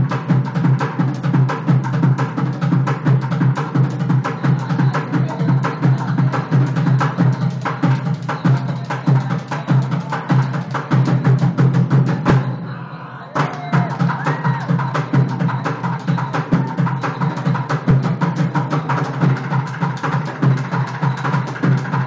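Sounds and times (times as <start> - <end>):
drummers playing fast rhythm: 0.0 - 22.0.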